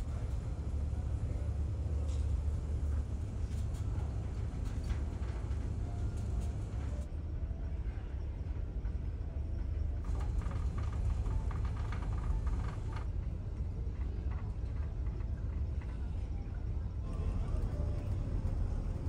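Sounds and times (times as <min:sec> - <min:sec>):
faint clicks and rattles: 0:00.0 - 0:07.1, 0:10.0 - 0:19.0
ship engines rumbling: 0:00.0 - 0:07.1, 0:09.8 - 0:19.0.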